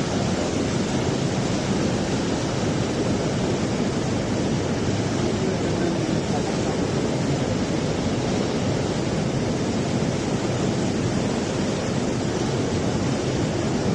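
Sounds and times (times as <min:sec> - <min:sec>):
rushing water roar: 0:00.0 - 0:13.9.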